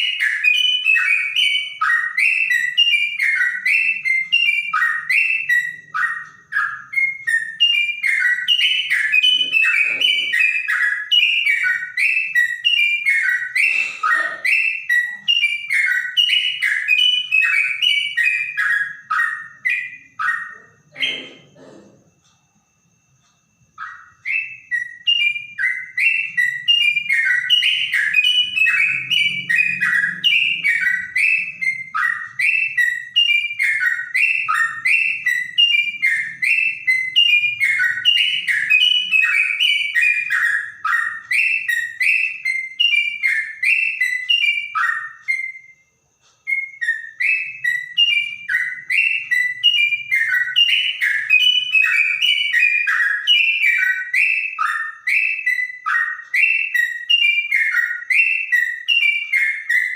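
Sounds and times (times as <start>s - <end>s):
bird singing whistled notes: 0.0s - 59.9s.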